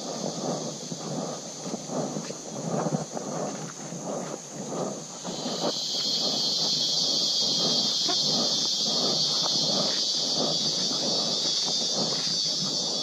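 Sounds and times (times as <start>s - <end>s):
footsteps on dirt trail: 0.0s - 13.0s
high-pitched insect drone: 0.0s - 13.0s.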